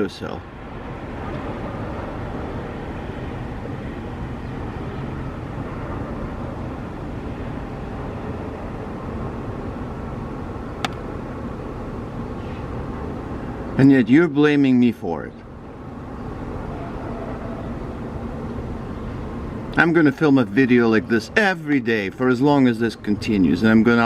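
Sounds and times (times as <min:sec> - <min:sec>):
city traffic hum: 0:00.0 - 0:24.0.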